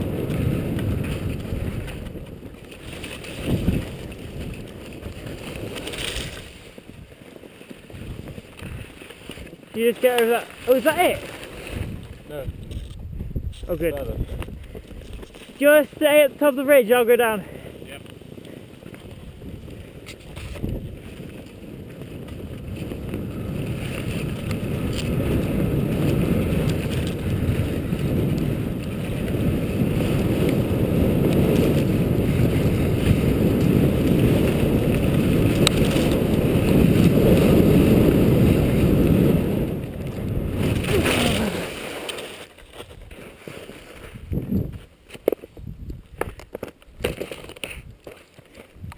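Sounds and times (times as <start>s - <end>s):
skis running over slushy snow: 0.0s - 13.0s, 13.6s - 48.9s
skis skidding in snow: 0.0s - 13.0s, 13.8s - 45.7s, 46.5s - 48.9s
wind rushing over microphone: 0.0s - 42.1s, 42.9s - 48.0s, 48.6s - 48.9s.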